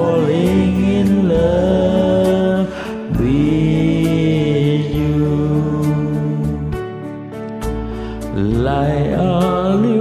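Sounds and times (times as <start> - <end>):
slow ballad backing music: 0.0 - 10.0.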